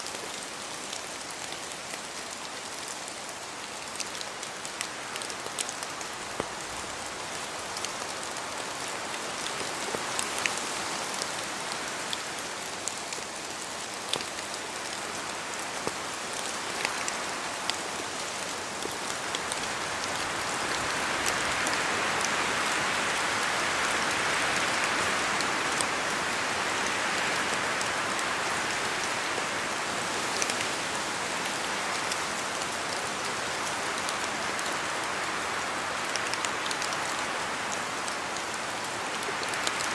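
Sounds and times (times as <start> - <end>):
rain drops ticking on leaves: 0.0 - 39.9.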